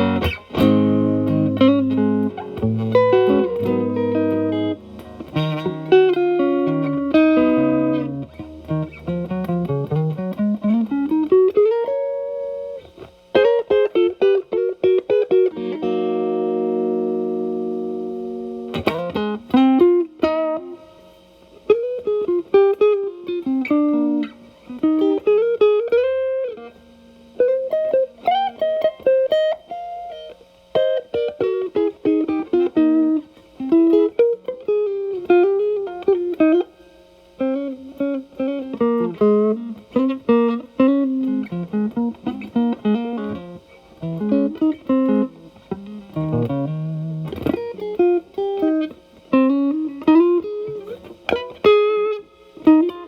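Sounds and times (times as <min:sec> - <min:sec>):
distorted electric guitar lead: 0:00.0 - 0:53.0.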